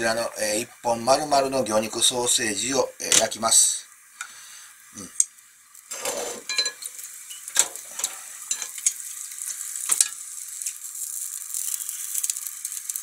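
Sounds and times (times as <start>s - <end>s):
sausage sizzling in oil: 0.0s - 13.0s.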